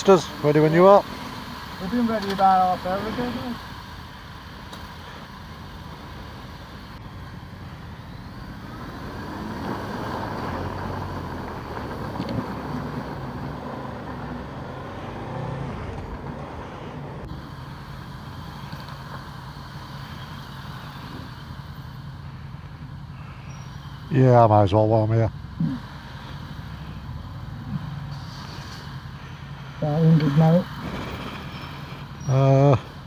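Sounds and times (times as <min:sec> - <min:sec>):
motorcycle engine revving: 0:00.0 - 0:33.0
motorcycle engines idling: 0:00.0 - 0:33.0.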